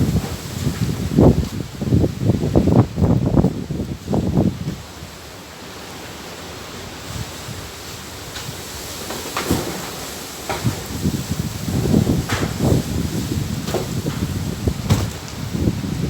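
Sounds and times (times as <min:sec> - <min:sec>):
wind gusting against microphone: 0:00.0 - 0:16.0.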